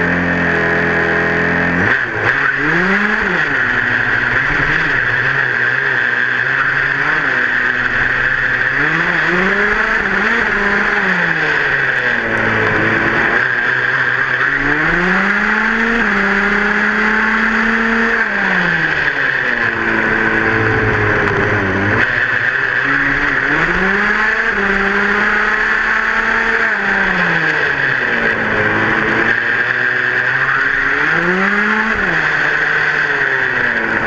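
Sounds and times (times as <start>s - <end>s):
small two-stroke engine revving: 0.0s - 34.0s.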